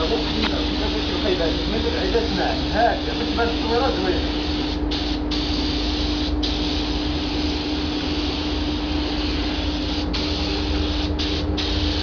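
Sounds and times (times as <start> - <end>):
paint spray gun hissing: 0.0 - 12.0
steady low hum: 0.0 - 12.0.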